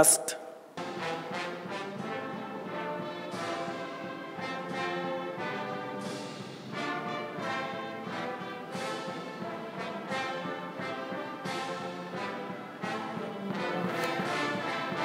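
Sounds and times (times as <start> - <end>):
brass band playing slow chords: 0.8 - 15.0.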